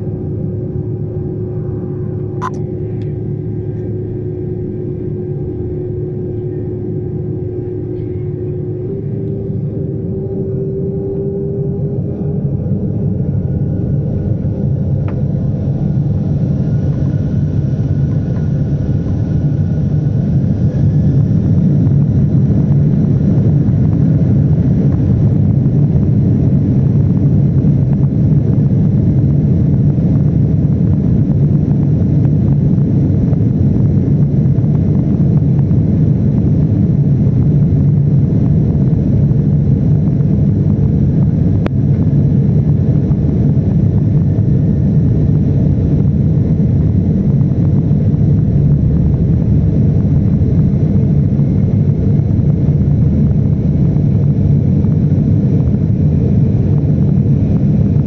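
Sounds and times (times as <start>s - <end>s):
faint rising whine: 0.0s - 58.0s
jet engines rumbling in cabin: 0.0s - 58.0s.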